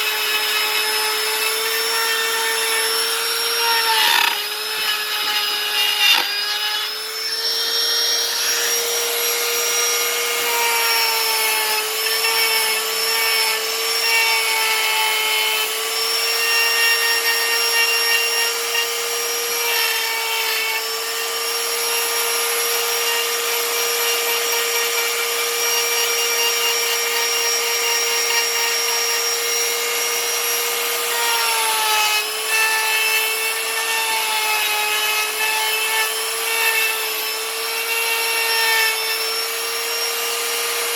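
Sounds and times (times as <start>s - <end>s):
power carving tool cutting wood: 0.0s - 40.9s.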